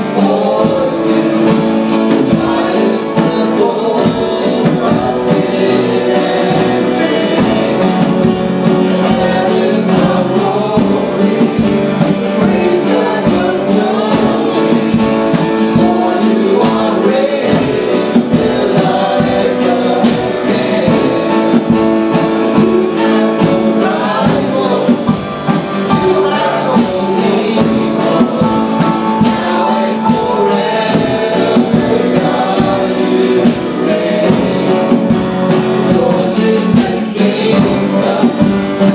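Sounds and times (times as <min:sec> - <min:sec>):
congregation singing: 0:00.0 - 0:38.9
guitar-led band playing: 0:00.0 - 0:38.9.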